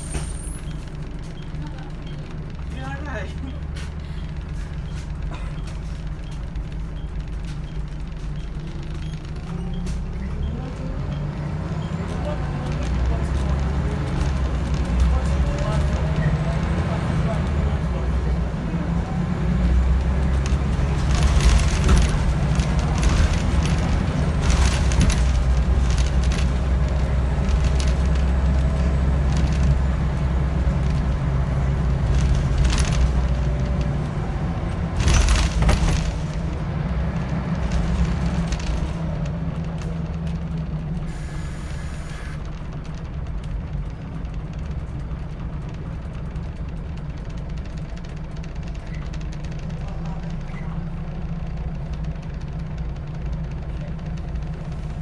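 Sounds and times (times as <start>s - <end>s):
bus body knocking and rattling: 0.0s - 41.1s, 42.3s - 55.0s
bus diesel engine pulling: 0.0s - 55.0s.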